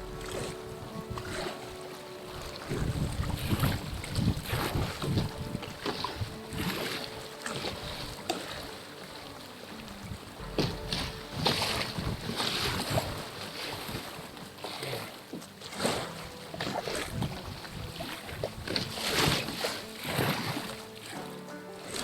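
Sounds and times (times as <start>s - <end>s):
kayak paddle strokes: 0.0s - 22.0s
water splashing against hull: 0.0s - 22.0s
wind on microphone: 0.0s - 22.0s.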